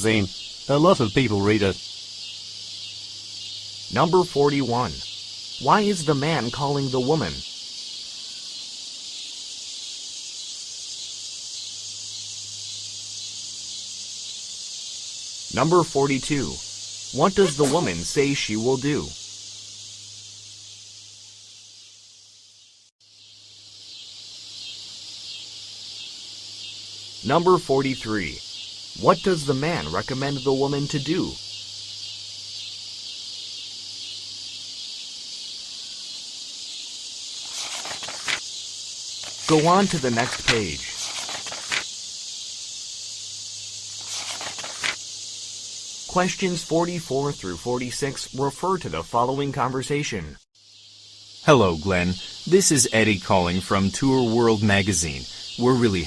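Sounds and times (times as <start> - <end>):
high hiss: 0.0 - 56.0.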